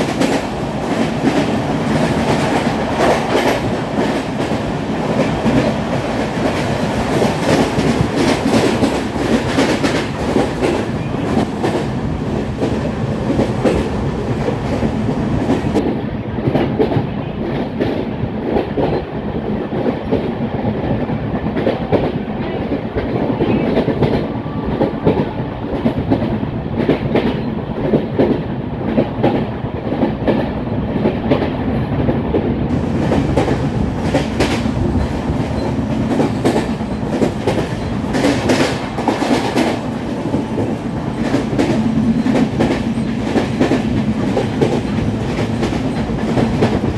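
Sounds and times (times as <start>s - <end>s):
rhythmic clickety-clack: 0.0s - 46.9s
rumble of train wheels on rail: 0.0s - 46.9s.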